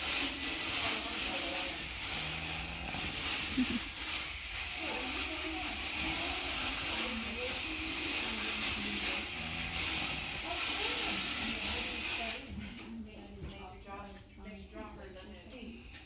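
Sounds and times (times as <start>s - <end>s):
dental float rasping teeth: 0.0s - 14.1s.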